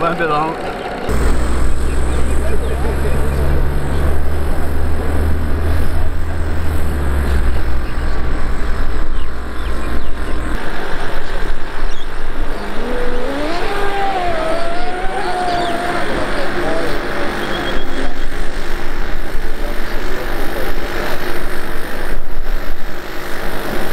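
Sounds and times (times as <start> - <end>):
deep steady rumble: 0.0 - 23.9
steam boat engine rushing: 0.0 - 23.9.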